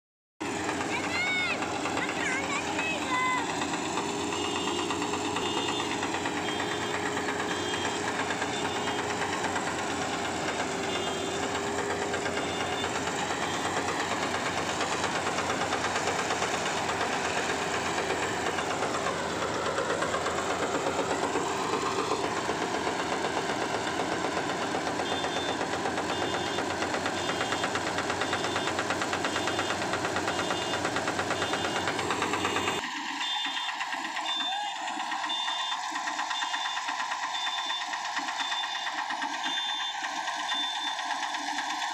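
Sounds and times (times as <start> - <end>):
reaper engine knocking steadily: 0.4 - 41.9.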